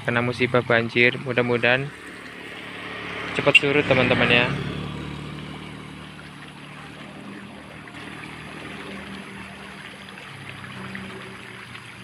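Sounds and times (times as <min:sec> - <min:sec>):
motorcycle engine humming: 0:00.0 - 0:12.0
stream rushing: 0:00.0 - 0:12.0.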